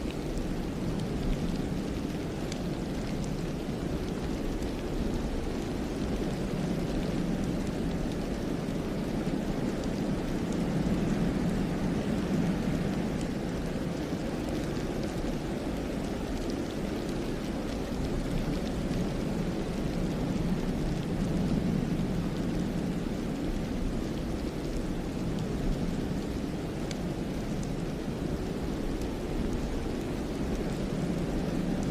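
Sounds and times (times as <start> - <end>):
wind blowing through forest: 0.0 - 31.9.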